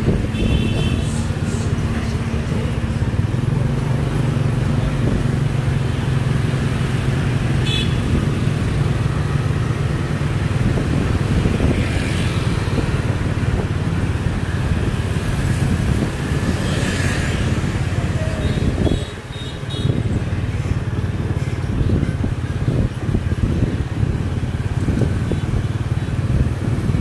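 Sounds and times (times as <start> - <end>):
motorbike and car traffic: 0.0 - 27.0.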